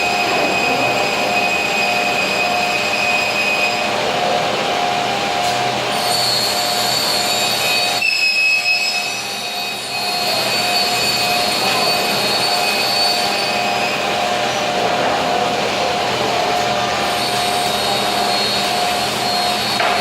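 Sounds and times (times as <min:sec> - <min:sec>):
machine spindle whine: 0:00.0 - 0:20.0
steady machine noise: 0:00.0 - 0:20.0.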